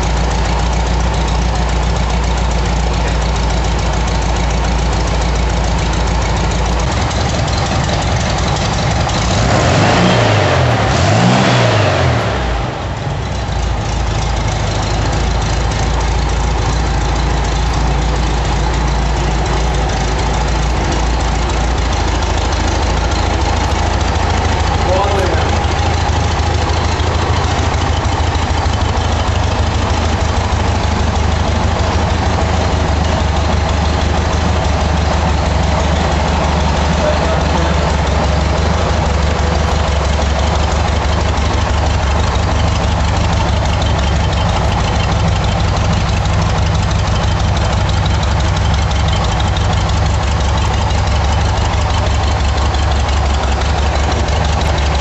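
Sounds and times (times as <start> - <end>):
air-cooled engine idling: 0.0 - 55.0.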